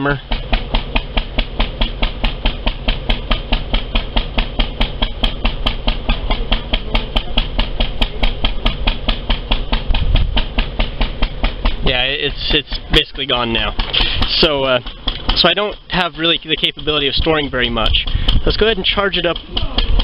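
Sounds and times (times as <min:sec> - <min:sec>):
generator engine running: 0:00.0 - 0:20.0
sharp regular ticking: 0:00.0 - 0:20.0.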